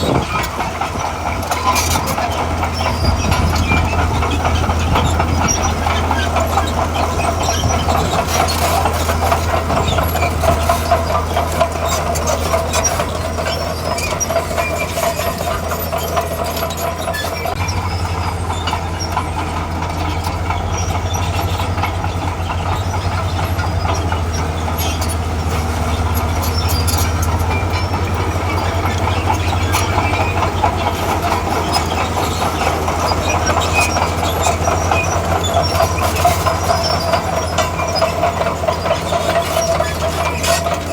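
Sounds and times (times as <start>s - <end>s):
diesel engine under load: 0.0s - 40.9s
steel tracks clanking: 0.0s - 40.9s.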